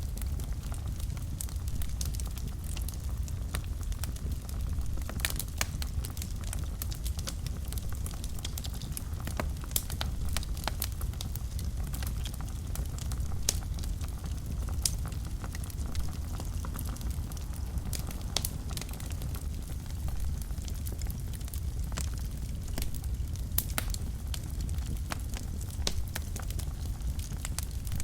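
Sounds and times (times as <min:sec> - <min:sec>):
fire low rumble: 0:00.0 - 0:28.0
wood fire crackling and popping: 0:00.0 - 0:28.0.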